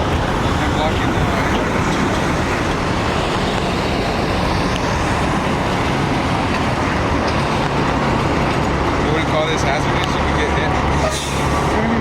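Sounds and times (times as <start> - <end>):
heavy truck engine rumbling: 0.0 - 12.0.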